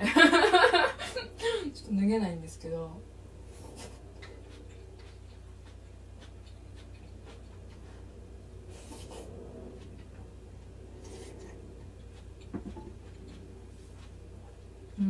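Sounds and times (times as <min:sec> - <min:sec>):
low steady hum: 0:00.0 - 0:15.0
soft chewing: 0:02.5 - 0:15.0.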